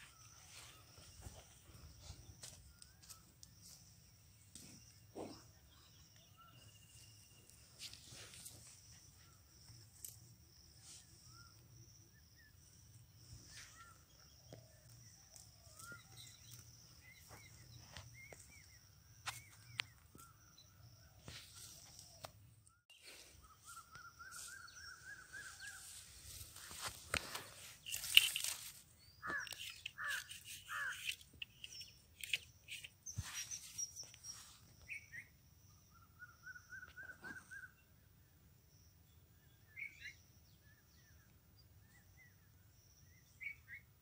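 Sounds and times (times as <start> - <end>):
bird chirps: 0.0 - 38.1, 38.7 - 44.0
high insect hum: 0.0 - 44.0.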